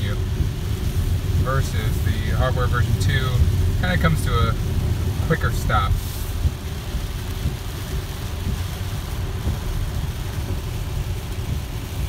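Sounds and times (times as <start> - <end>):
heavy rain on a car: 0.0 - 12.0
tyres on a wet road: 0.0 - 12.0.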